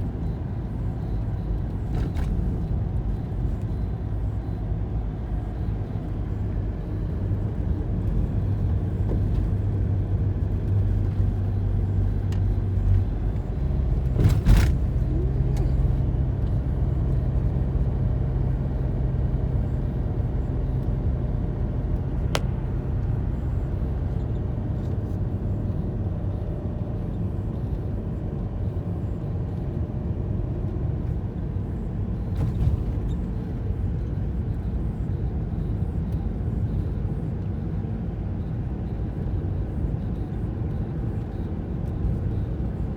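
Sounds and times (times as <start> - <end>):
car engine hum: 0.0 - 42.9
road rumble: 0.0 - 42.9.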